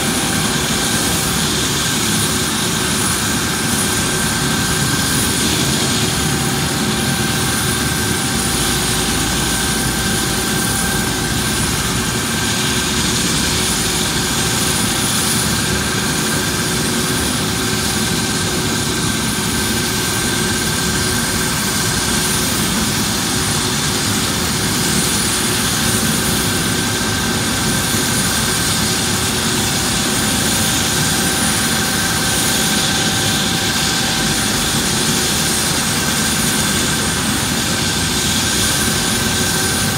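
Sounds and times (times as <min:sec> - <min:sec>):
constant rushing noise: 0:00.0 - 0:39.9
helicopter turbine whine: 0:00.0 - 0:39.9.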